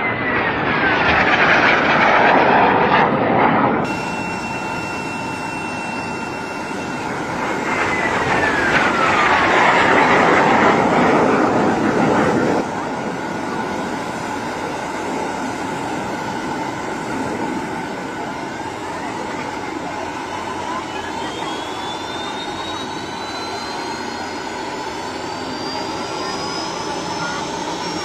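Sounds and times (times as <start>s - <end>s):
air-raid siren: 0.0s - 28.0s
rush of noise: 0.0s - 28.0s.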